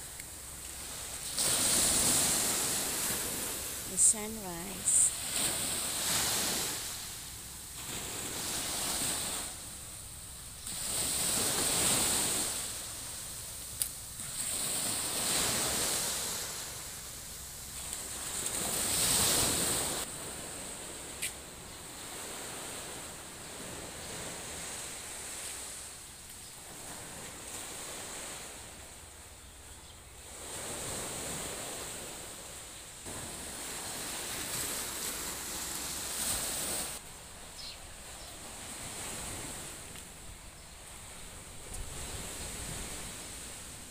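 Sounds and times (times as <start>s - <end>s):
small waves washing on shore: 0.0s - 29.4s, 30.2s - 43.9s.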